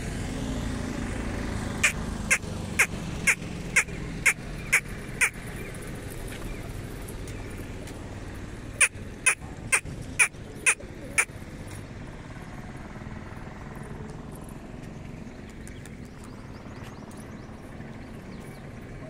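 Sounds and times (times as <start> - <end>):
outdoor background hum: 0.0 - 19.0.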